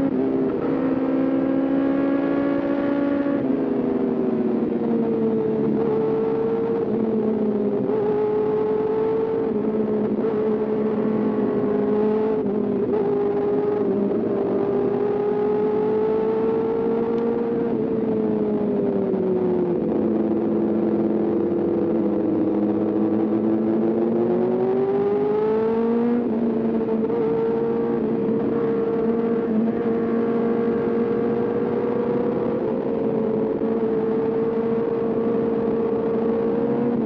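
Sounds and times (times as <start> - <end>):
motorcycle engine at high revs: 0.0 - 19.2, 19.8 - 37.0.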